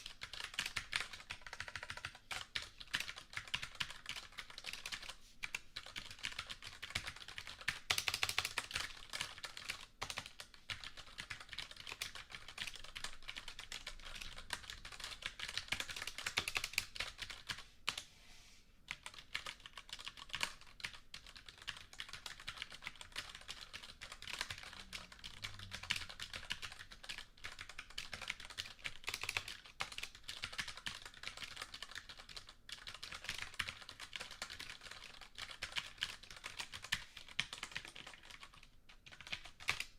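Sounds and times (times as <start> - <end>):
computer keyboard typing: 0.0 - 18.0, 18.9 - 39.9.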